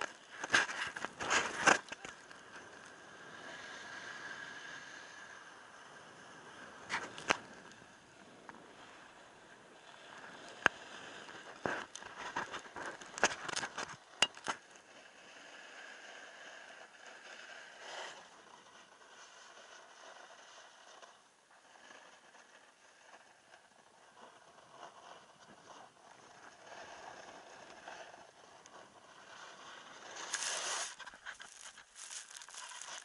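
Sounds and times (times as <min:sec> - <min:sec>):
skis scraping over snow: 0:00.0 - 0:33.0.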